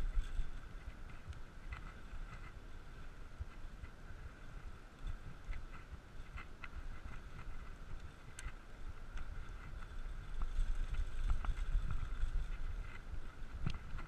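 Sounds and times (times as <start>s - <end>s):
bicycle tyre road noise: 0.0s - 14.0s
faint steady hum: 0.0s - 14.0s
wind rumbling on microphone: 0.0s - 14.0s.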